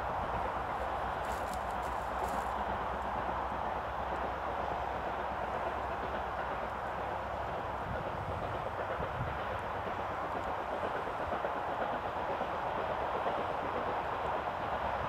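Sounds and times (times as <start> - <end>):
distant steam locomotive exhaust beat: 0.0 - 15.0
motorway traffic roar: 0.0 - 15.0.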